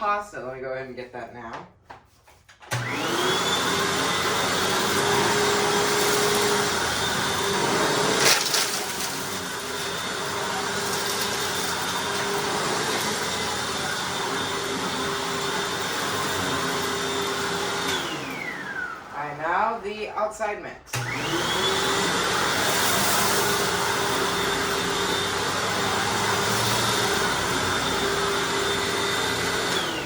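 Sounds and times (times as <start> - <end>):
vacuum cleaner motor whine: 2.7 - 19.6, 20.9 - 30.0.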